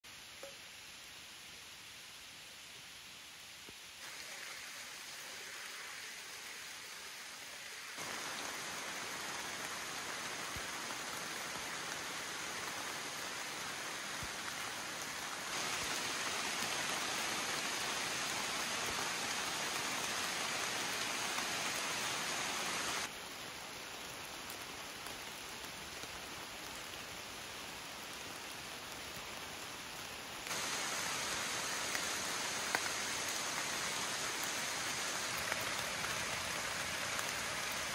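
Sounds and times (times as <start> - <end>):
rain falling on leaves: 0.1 - 37.9.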